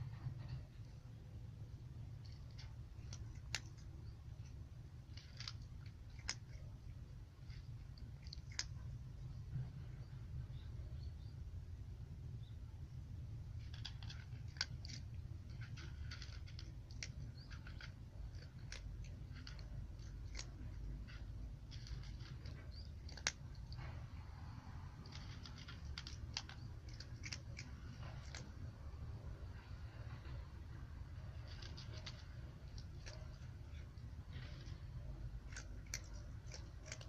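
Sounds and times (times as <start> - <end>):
cat crunching dry kibble: 0.0 - 10.0, 13.0 - 37.0
low steady hum: 0.0 - 37.0.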